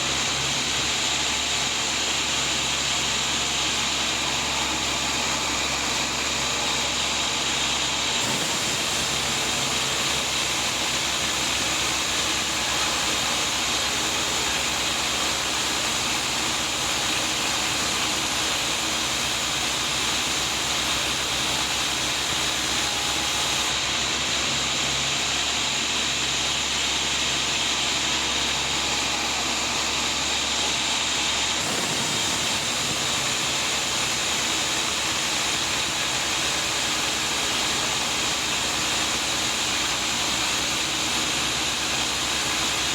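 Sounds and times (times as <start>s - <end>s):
sawmill sawing log: 0.0s - 42.9s.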